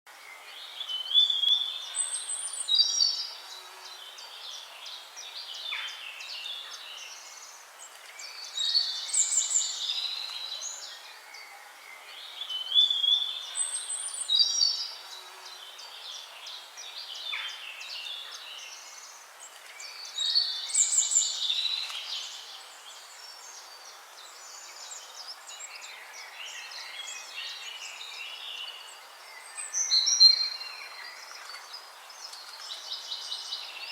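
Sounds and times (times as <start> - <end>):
faint steady hiss: 0.1 - 33.9
songbirds singing and chirping: 0.1 - 33.9.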